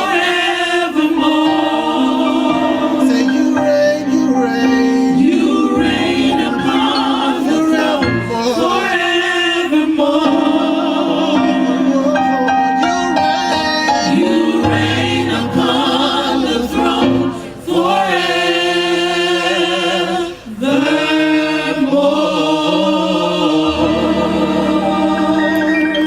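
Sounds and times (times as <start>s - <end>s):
gospel choir singing in harmony: 0.0s - 26.0s.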